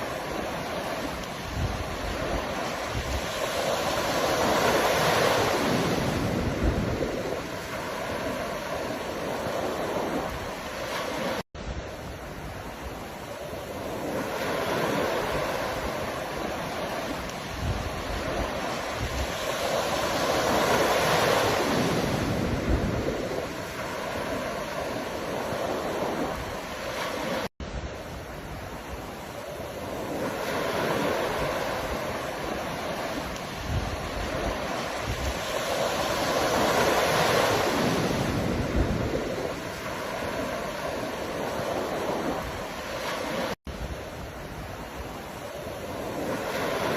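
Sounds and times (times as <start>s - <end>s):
ocean surf washing ashore: 0.0s - 46.9s.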